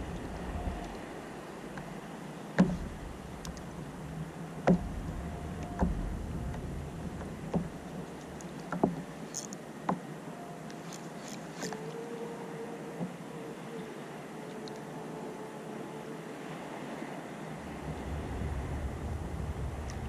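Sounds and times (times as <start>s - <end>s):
sea and wind wash: 0.0s - 20.0s.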